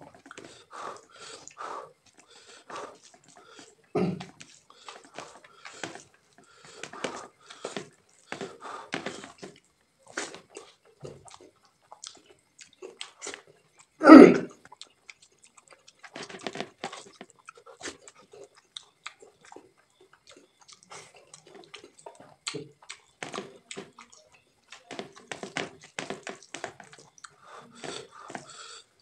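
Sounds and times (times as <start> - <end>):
mouth clicks and smacks: 0.0 - 28.6
person chewing food: 0.0 - 29.0.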